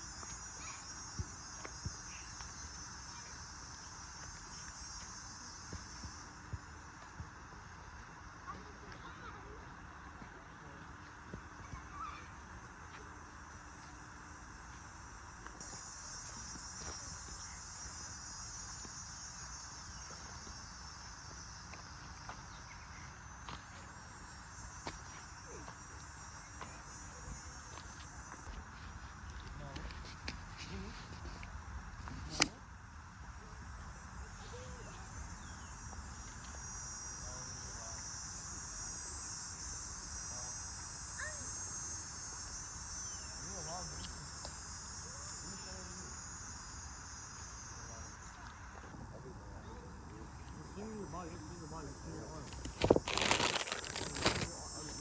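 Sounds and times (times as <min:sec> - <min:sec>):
crickets trilling: 0:00.0 - 0:55.0
insects chirring: 0:00.0 - 0:55.0.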